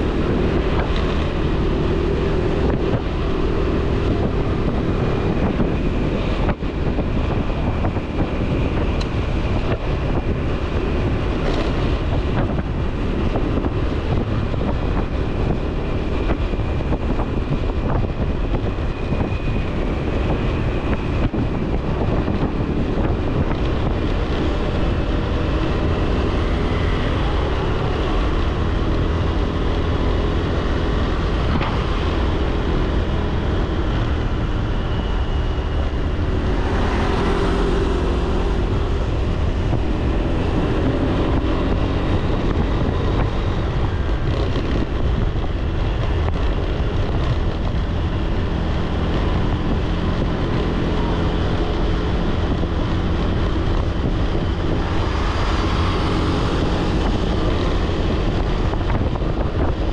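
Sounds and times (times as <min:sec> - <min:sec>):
motorbike engine and road noise: 0:00.0 - 0:59.9
wind buffeting microphone: 0:00.0 - 0:59.9.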